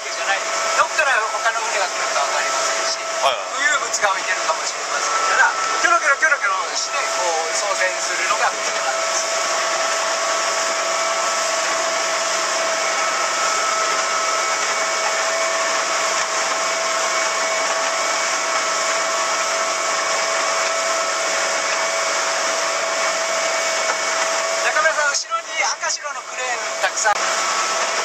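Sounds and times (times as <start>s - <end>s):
motorboat engine whine: 0.0s - 28.0s.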